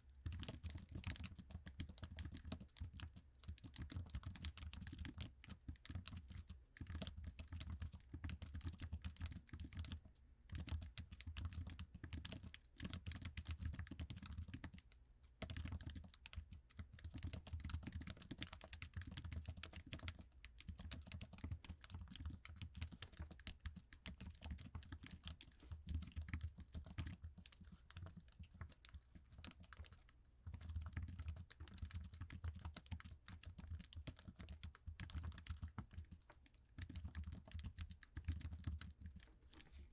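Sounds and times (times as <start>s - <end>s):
fast keyboard typing: 0.2s - 14.8s, 15.4s - 39.6s.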